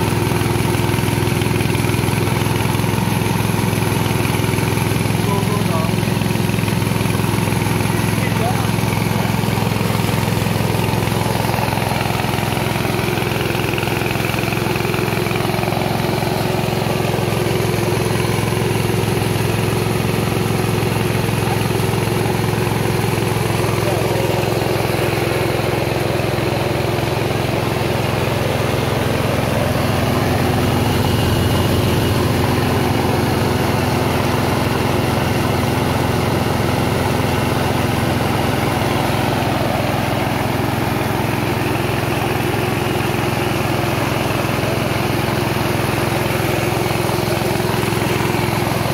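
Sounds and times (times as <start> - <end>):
rice milling machine: 0.0 - 48.9
small engine running: 0.0 - 48.9.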